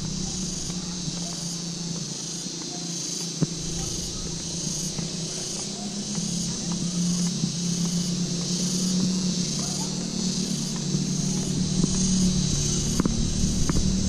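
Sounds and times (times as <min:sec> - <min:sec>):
insect chorus: 0:00.0 - 0:14.0
low hum: 0:00.0 - 0:14.0.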